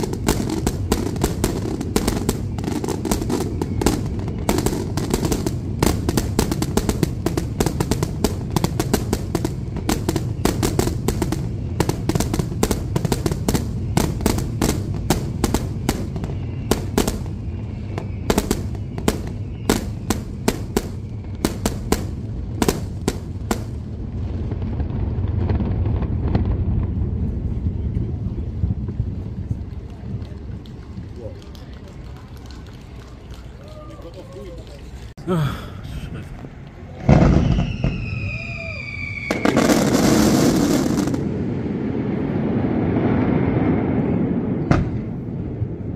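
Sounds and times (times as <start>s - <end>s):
fireworks bangs: 0.0s - 34.3s, 36.1s - 45.9s.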